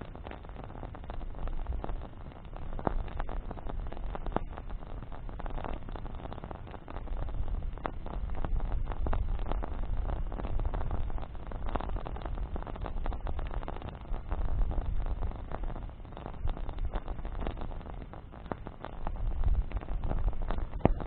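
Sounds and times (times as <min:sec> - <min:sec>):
bonfire crackling and popping: 0:00.0 - 0:21.0
low fire rumble: 0:00.0 - 0:21.0.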